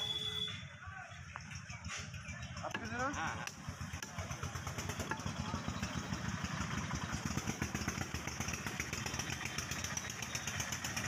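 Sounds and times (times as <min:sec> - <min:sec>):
small engine running: 0:01.4 - 0:11.0.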